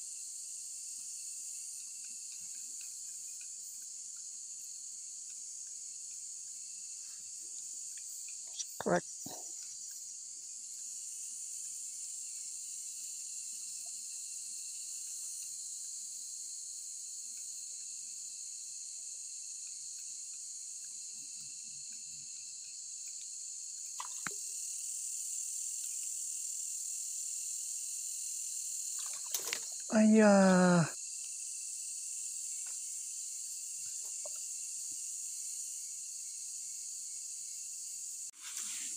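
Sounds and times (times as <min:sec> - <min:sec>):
night insects chorus: 0:00.0 - 0:38.9.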